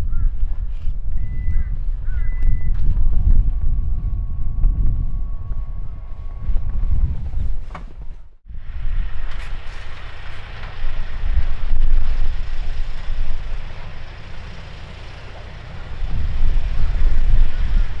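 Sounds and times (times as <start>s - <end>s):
strong wind gusting on microphone: 0.0s - 13.9s, 15.8s - 18.0s.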